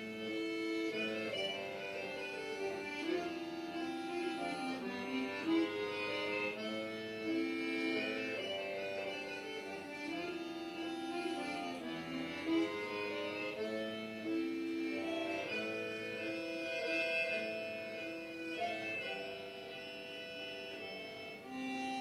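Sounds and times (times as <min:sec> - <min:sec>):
slow instrumental music: 0:00.0 - 0:22.0.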